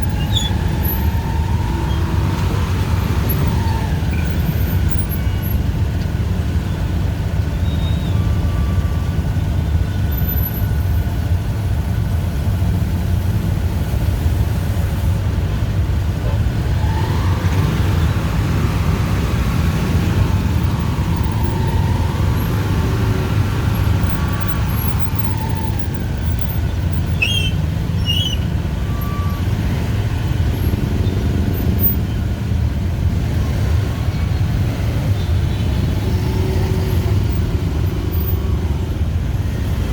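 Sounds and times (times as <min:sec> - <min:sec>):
street traffic rumble: 0:00.0 - 0:39.9.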